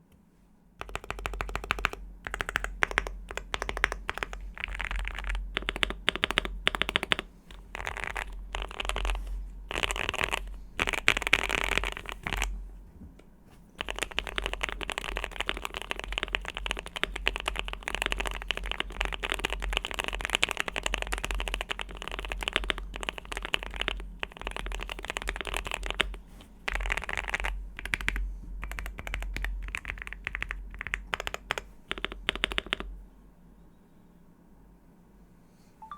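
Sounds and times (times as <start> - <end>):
typing on mechanical keyboard: 0.8 - 12.5, 13.8 - 32.9.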